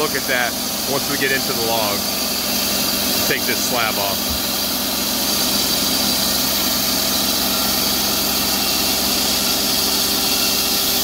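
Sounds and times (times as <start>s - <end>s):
band sawmill cutting log: 0.0s - 11.0s.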